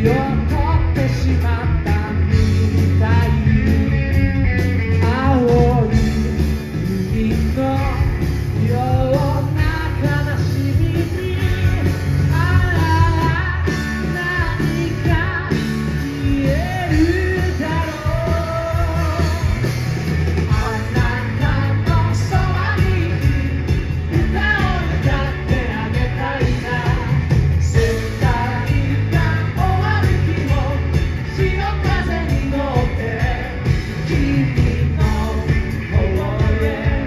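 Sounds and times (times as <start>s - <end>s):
bass guitar: 0.0s - 37.0s
drums: 0.0s - 37.0s
electric guitar: 0.0s - 37.0s
man singing: 0.0s - 37.0s.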